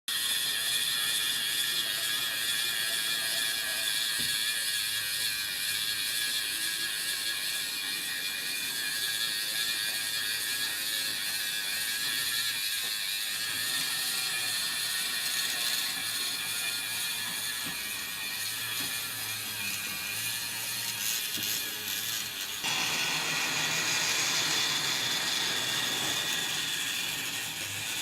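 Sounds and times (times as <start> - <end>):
model train motor whirring: 0.1 - 28.0.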